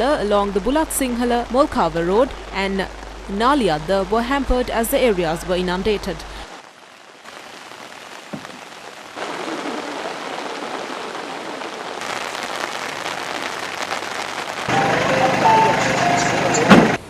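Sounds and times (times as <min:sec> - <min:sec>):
rain splashing on surfaces: 0:00.0 - 0:17.0.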